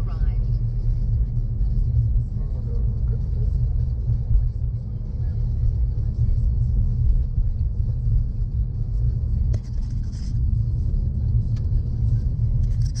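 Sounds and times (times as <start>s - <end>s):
car driving on paved road: 0.0s - 13.0s.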